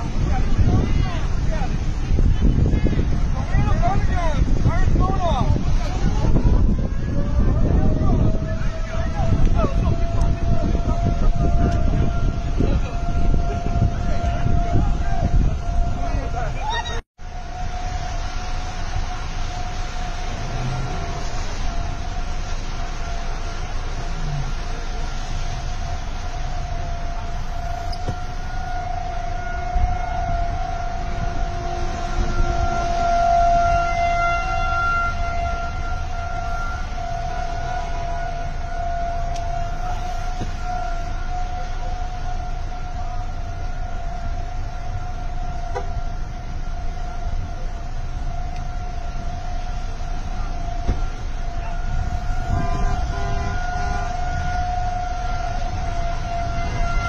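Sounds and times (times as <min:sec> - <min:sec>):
tornado warning siren: 0:00.0 - 0:57.0
wind rumbling on microphone: 0:00.0 - 0:57.0.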